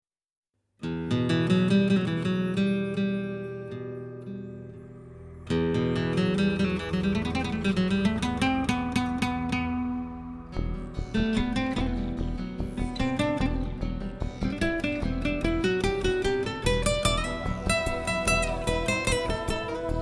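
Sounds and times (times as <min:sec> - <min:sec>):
acoustic guitar strummed chords: 0:00.8 - 0:20.0.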